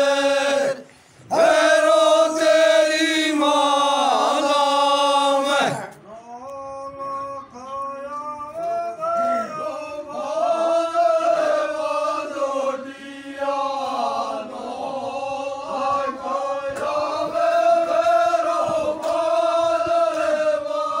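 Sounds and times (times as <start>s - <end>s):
men chanting together: 0.0s - 5.9s, 8.8s - 21.0s.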